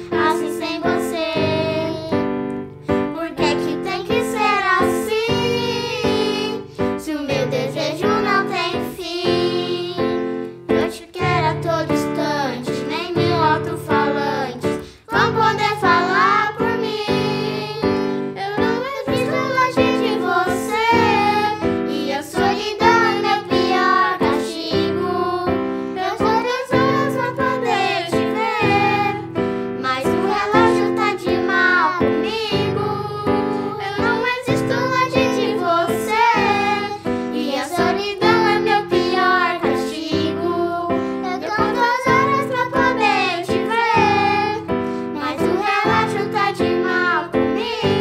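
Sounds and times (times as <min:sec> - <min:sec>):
electronic keyboard piano chords: 0:00.0 - 0:48.0
girls singing a ballad: 0:00.0 - 0:48.0.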